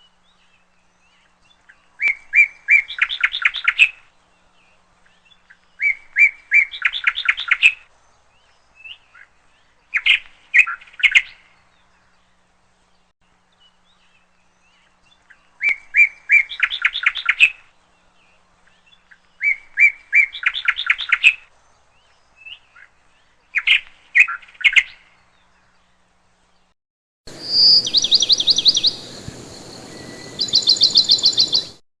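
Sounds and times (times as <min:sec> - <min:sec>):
bird singing trilled phrases: 0:00.0 - 0:26.7, 0:27.3 - 0:31.8
background hiss: 0:00.0 - 0:31.8.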